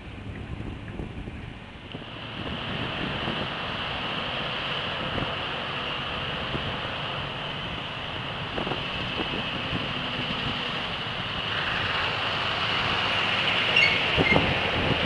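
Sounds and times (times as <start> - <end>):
truck engines running: 0.0 - 15.0.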